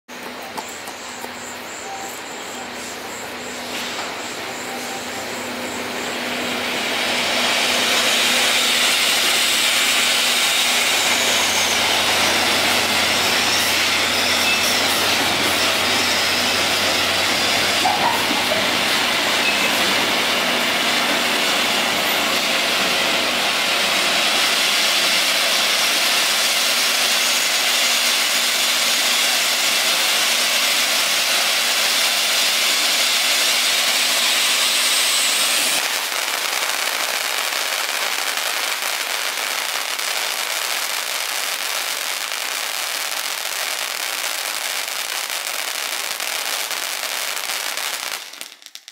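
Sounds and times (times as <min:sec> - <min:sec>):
firework fountain hissing: 0:00.1 - 0:48.9.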